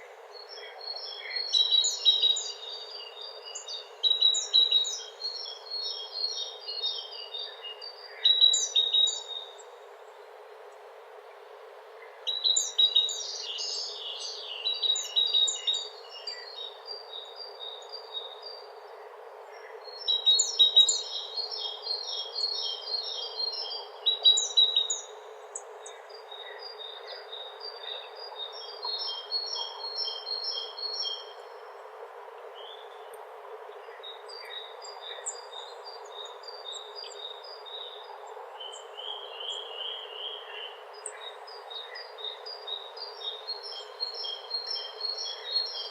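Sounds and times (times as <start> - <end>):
songbirds chirping and trilling: 0.0 - 10.9, 12.0 - 45.9
faint steady hiss: 0.0 - 45.9.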